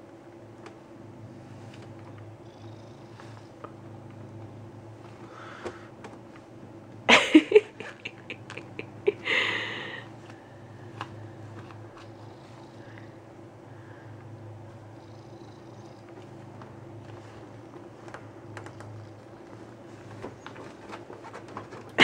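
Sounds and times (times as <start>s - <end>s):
cat purring: 1.0s - 5.5s, 7.5s - 10.0s, 10.6s - 22.0s.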